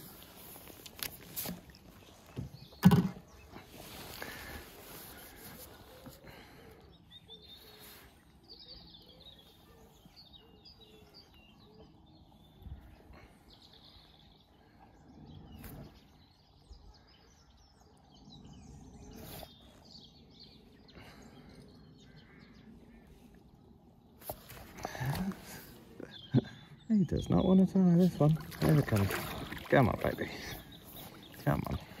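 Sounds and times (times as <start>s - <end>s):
faint birdsong: 0.0s - 32.0s
outdoor background: 0.0s - 32.0s.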